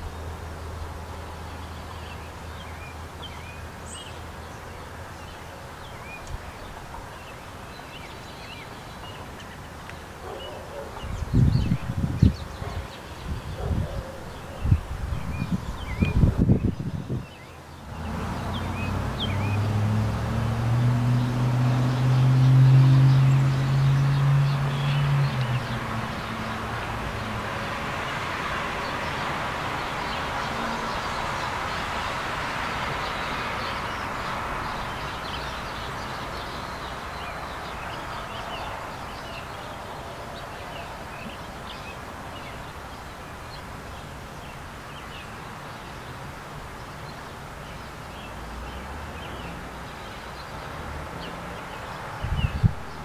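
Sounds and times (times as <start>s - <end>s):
broad rushing noise: 0.0s - 53.0s
songbirds chirping: 0.0s - 53.0s.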